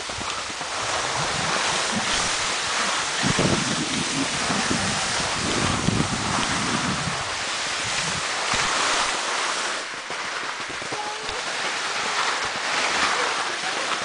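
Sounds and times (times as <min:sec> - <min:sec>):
skis sliding over snow: 0:00.0 - 0:14.0.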